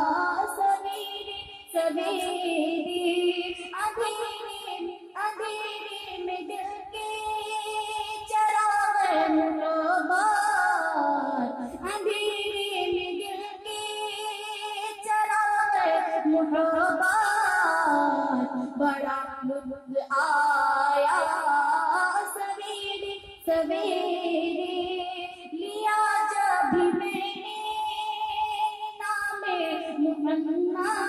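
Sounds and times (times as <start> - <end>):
girl singing into a microphone: 0.0 - 31.0.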